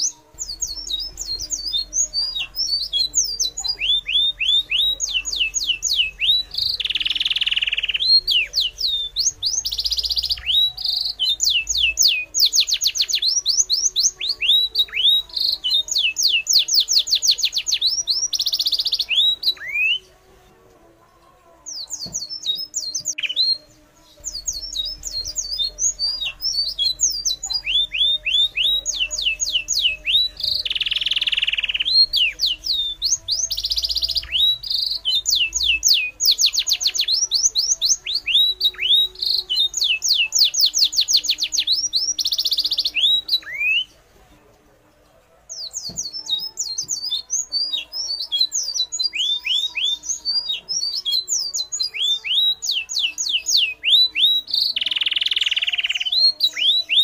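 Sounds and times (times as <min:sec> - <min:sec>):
birds chirping: 0:00.0 - 0:44.6, 0:45.4 - 0:57.0.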